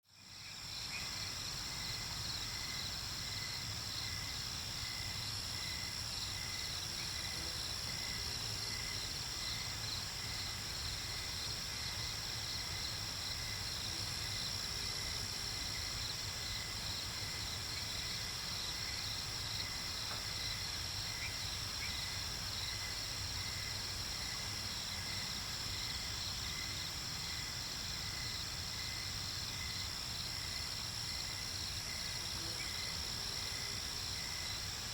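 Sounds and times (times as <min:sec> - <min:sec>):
pulsing low insect trill: 0:00.1 - 0:34.9
crickets trilling: 0:00.2 - 0:34.9.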